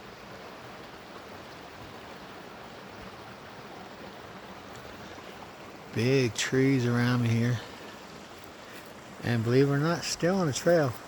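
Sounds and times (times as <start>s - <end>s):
creek rushing over rocks: 0.0s - 11.0s.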